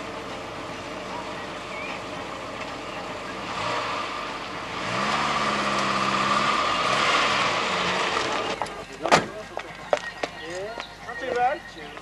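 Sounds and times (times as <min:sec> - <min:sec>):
car engine pulling away: 0:00.0 - 0:09.9.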